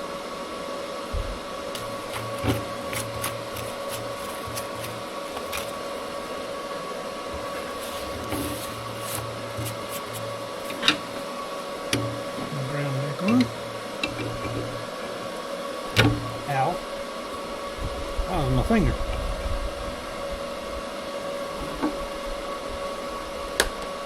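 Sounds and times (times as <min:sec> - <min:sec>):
machine hum with whine: 0:00.0 - 0:24.0.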